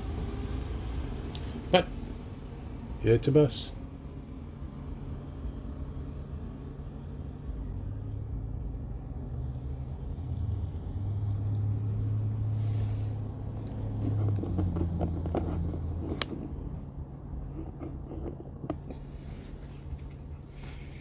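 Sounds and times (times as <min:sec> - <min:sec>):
diesel bus engine rumbling: 0:00.0 - 0:21.0.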